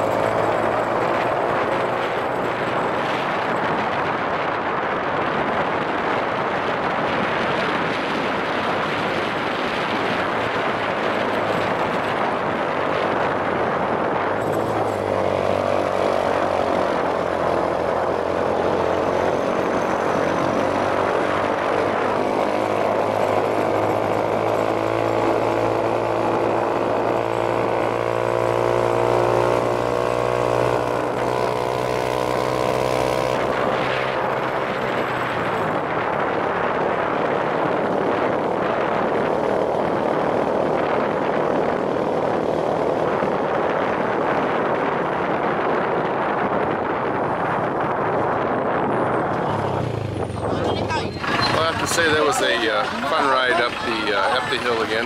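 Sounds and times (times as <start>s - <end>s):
small motorcycle engine climbing hill: 0.0s - 50.5s
wind buffeting microphone: 0.0s - 55.0s.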